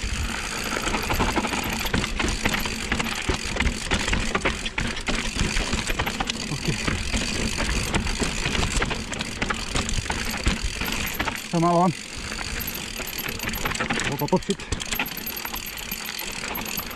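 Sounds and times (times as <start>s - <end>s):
bike knocks and rattles: 0.0s - 16.9s
rear hub ticking: 0.0s - 16.9s.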